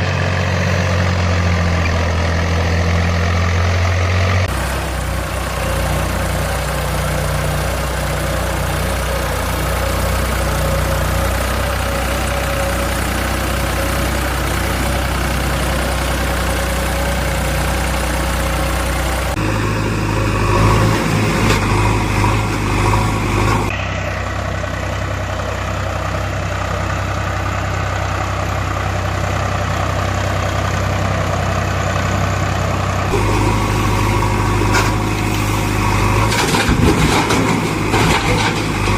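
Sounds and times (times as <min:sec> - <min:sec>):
heavy machinery diesel engines: 0:00.0 - 0:38.9.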